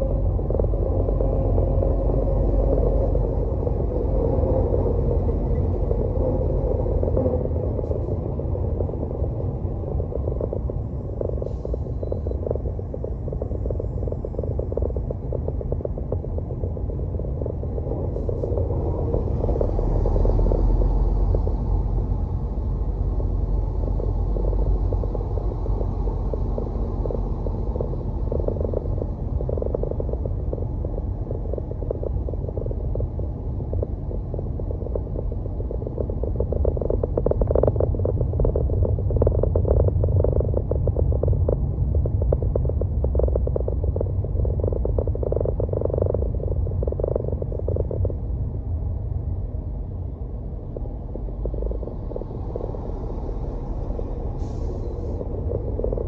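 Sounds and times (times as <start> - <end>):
car road and engine rumble: 0.0 - 56.0
rapid irregular rattling crackle: 0.0 - 56.0.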